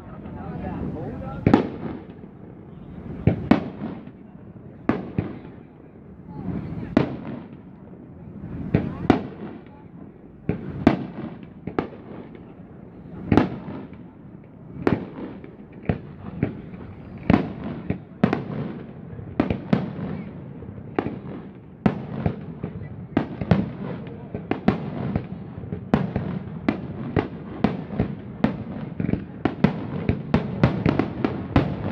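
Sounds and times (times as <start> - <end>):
fireworks bursting: 0.0 - 5.7, 6.3 - 7.8, 8.4 - 31.9.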